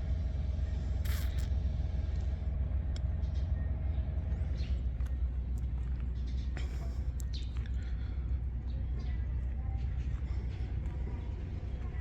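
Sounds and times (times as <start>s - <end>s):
engine machine low rumble: 0.0s - 12.0s.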